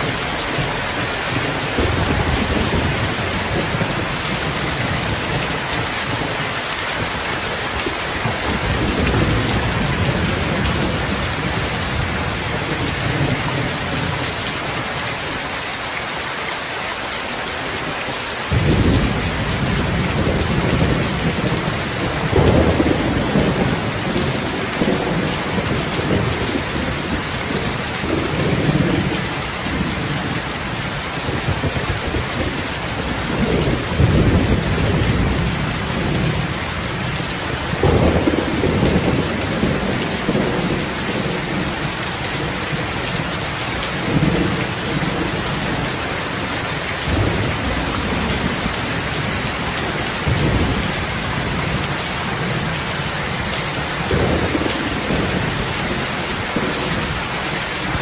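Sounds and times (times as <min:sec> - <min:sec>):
thunder rumbling: 0:00.0 - 0:15.0, 0:18.5 - 0:58.0
heavy rain falling: 0:00.0 - 0:58.0.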